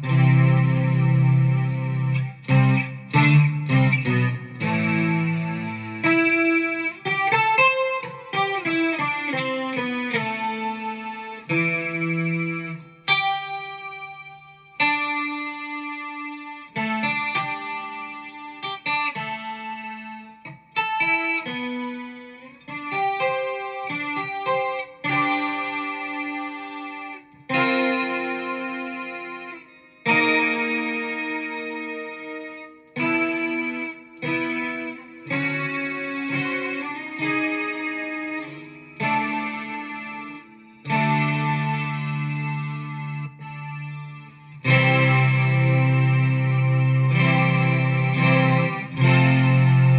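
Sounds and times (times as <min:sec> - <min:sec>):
synth guitar chords and notes: 0:00.0 - 0:49.9.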